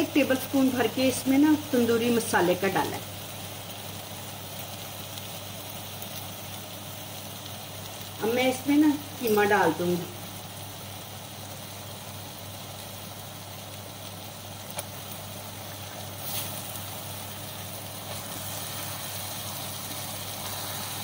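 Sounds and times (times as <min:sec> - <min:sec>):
onions sizzling in a pot: 0:00.0 - 0:21.0.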